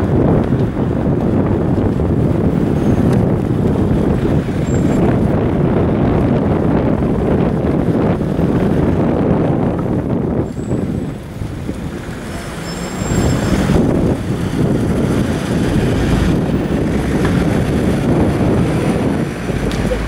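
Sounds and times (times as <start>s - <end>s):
road traffic rumbling: 0.0s - 20.0s
wind buffeting microphone: 0.0s - 20.0s.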